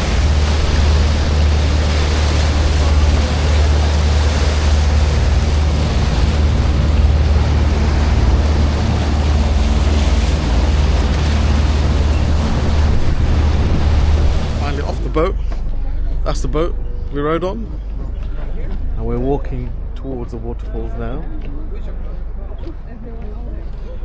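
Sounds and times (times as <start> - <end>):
water rushing past hull: 0.0 - 21.0
boat engine droning: 0.0 - 24.0.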